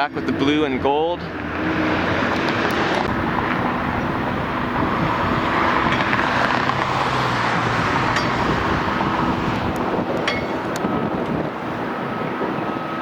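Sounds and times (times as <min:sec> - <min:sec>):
low engine hum: 0:00.0 - 0:13.0
vehicles passing: 0:00.0 - 0:13.0.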